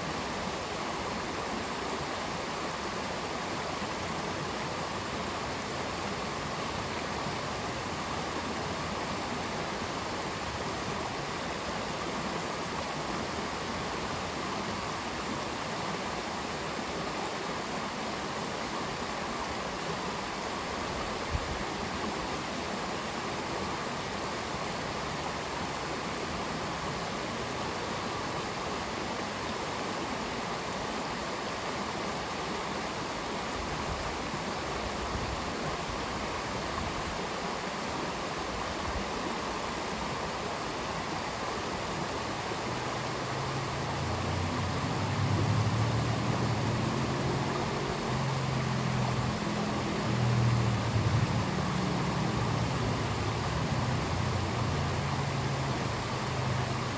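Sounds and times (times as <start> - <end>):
stream rushing over stones: 0.0 - 56.9.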